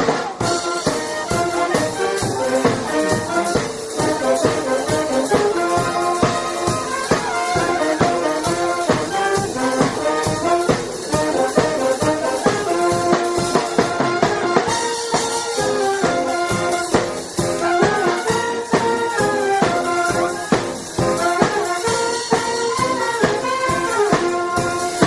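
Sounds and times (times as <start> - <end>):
brass band tune: 0.0 - 25.0.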